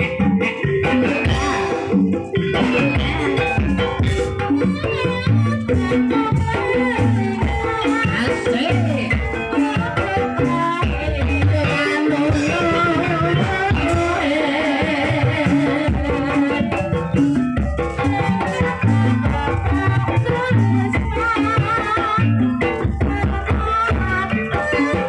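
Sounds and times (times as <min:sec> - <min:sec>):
gamelan music: 0:00.0 - 0:25.0
rattling percussion: 0:00.0 - 0:25.0
wavering high melody: 0:00.0 - 0:25.0.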